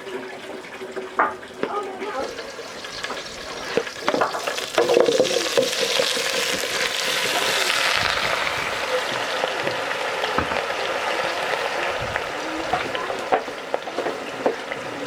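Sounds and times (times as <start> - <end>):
food sizzling in hot oil: 1.1 - 15.0
cookware clattering: 1.2 - 15.0.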